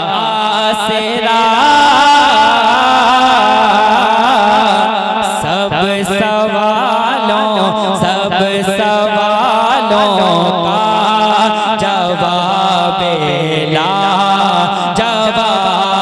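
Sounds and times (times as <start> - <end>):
man singing melismatically: 0.0 - 16.0.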